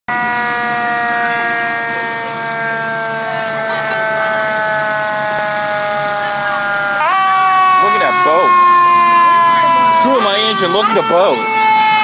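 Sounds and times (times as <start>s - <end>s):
fire truck siren: 0.1s - 12.0s.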